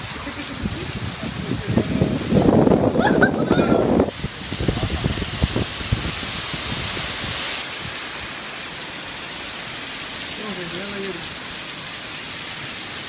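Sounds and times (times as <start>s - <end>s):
heavy rain hissing on street: 0.0s - 13.0s.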